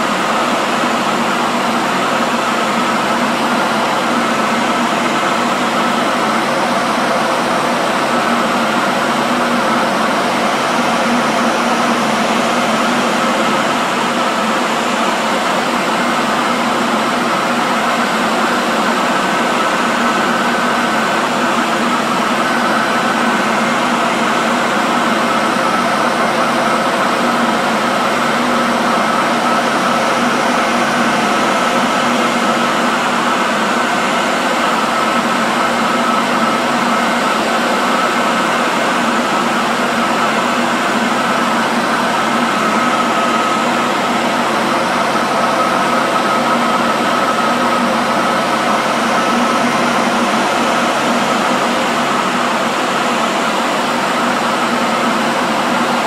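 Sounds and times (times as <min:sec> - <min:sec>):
electric hand dryer blowing: 0:00.0 - 0:56.0.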